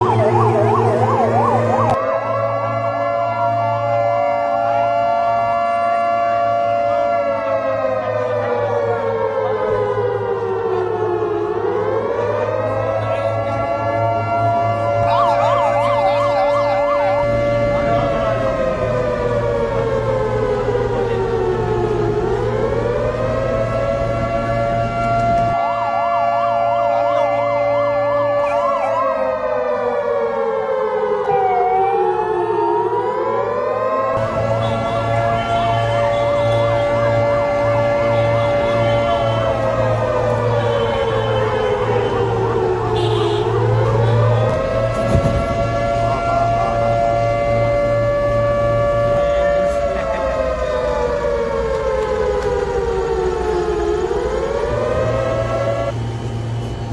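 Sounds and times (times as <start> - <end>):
air-raid siren wailing: 0.0 - 56.9
vehicle siren warbling: 0.0 - 56.9.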